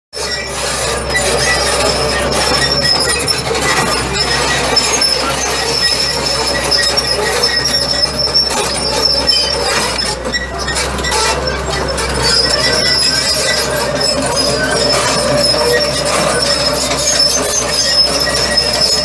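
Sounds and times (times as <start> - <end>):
diesel engine low drone: 0.2 - 19.0
high-pitched metallic whine: 0.2 - 19.0.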